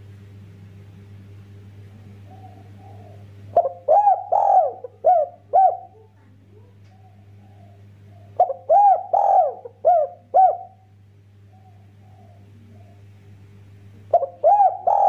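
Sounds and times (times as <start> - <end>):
faint low hum: 0.0 - 15.0
dove cooing: 1.8 - 15.0.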